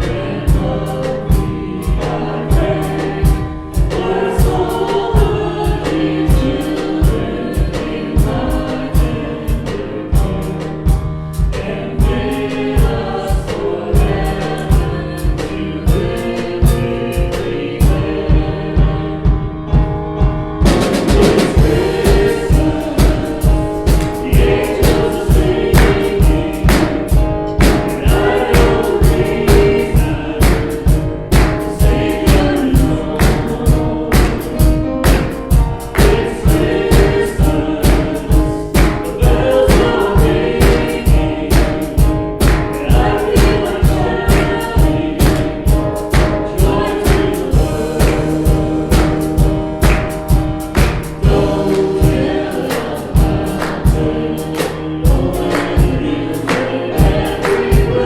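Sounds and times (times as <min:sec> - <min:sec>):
group singing: 0:00.0 - 0:58.0
steady drum beat: 0:00.0 - 0:58.0.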